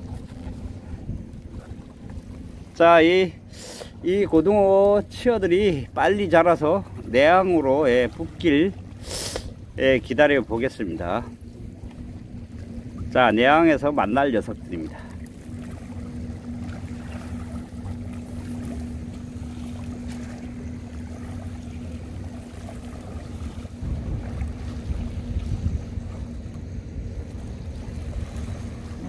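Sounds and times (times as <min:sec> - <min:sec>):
wind rumble on microphone: 0:00.0 - 0:03.0, 0:04.0 - 0:29.0
boat engine drone: 0:00.0 - 0:29.0.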